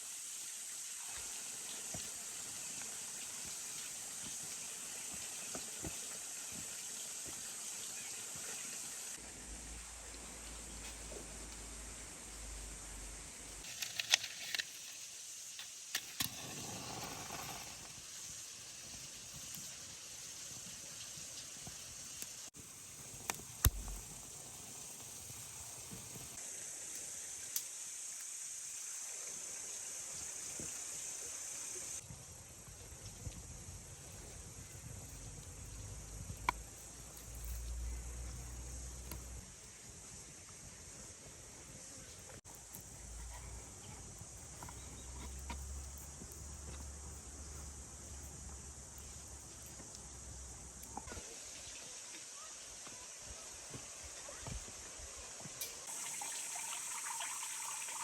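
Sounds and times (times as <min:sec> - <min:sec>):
high-pitched hiss: 0:00.0 - 0:58.0
insects chirring: 0:00.1 - 0:58.0.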